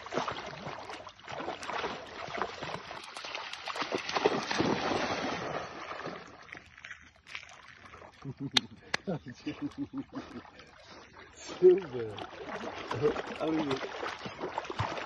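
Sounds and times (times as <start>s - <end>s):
dog splashing through water: 0.0s - 8.2s, 10.4s - 15.0s.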